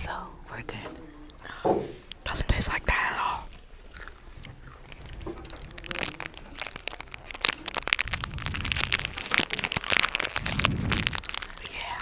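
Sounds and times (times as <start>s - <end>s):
crunchy larvae being chewed: 2.1s - 12.0s.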